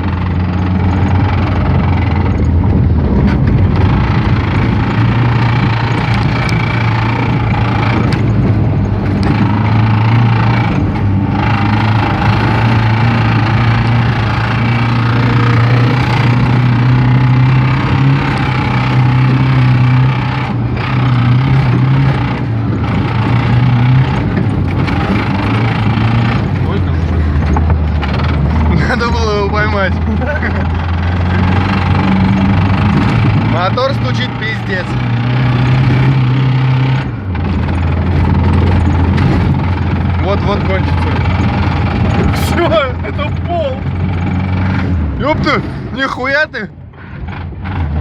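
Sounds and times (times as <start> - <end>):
car engine running: 0.0 - 48.0
engine knocking: 0.0 - 48.0.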